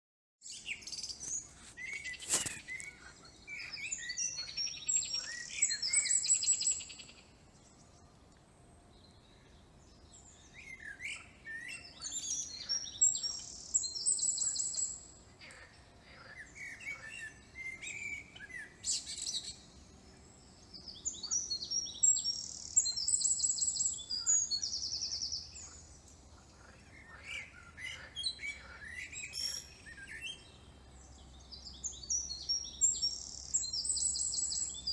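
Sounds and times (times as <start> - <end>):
songbirds chirping and trilling: 0.4 - 34.9.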